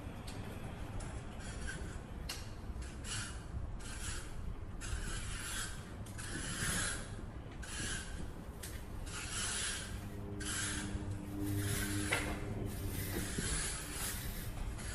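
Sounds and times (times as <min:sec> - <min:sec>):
hand scraping strokes: 0:01.1 - 0:14.9.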